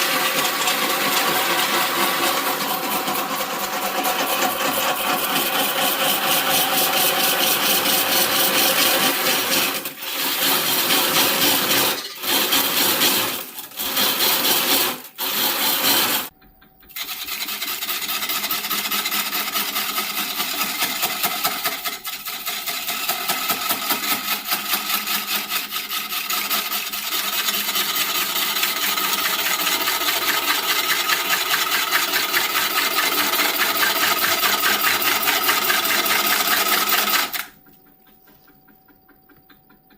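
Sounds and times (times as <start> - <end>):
abrasive tool rasping wood: 0.0 - 37.6.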